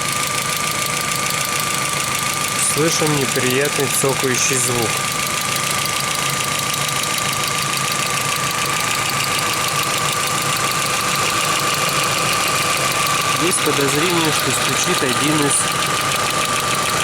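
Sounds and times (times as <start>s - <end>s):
car engine running: 0.0s - 17.0s
rapid engine ticking: 0.0s - 17.0s.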